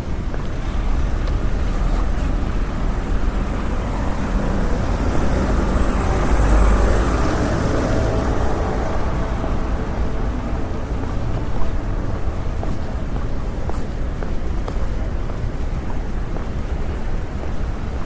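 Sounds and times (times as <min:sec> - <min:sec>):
traffic rumble: 0:00.0 - 0:18.0
vehicle passing: 0:00.5 - 0:15.2.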